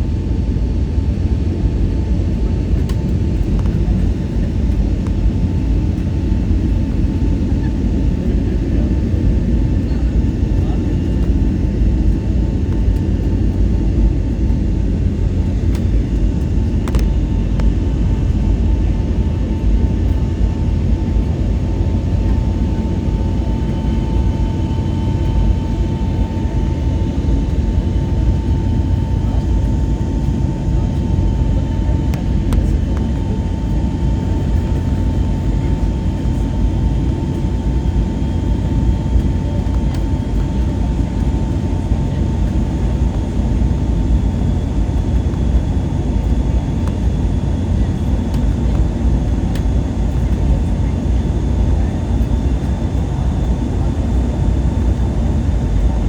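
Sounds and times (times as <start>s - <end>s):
airliner cabin rumble: 0.0s - 56.0s
constant engine whine: 0.0s - 56.0s.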